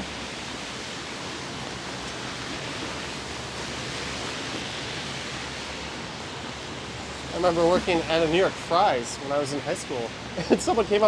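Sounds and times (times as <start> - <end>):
pouring rain: 0.0 - 11.0.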